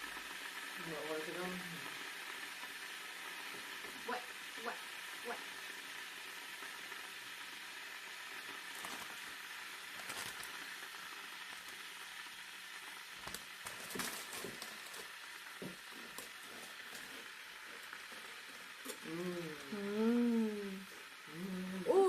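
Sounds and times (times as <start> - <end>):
steady sizzling hiss: 0.0 - 22.0.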